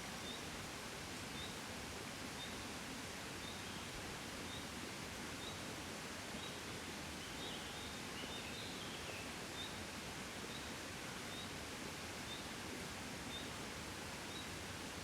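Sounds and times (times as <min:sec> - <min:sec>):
gentle breeze: 0:00.0 - 0:15.0.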